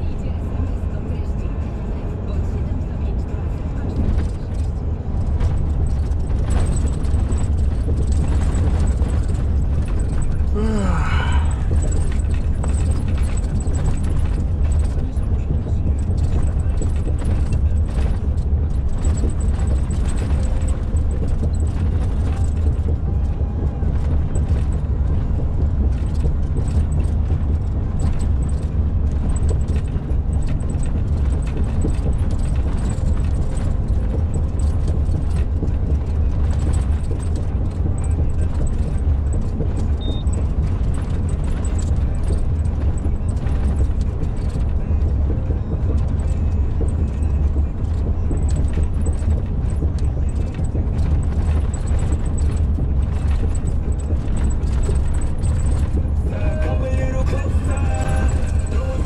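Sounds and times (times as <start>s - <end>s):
truck engine and tyres rumbling: 0.0s - 59.0s
truck knocking and rattling: 3.2s - 59.0s.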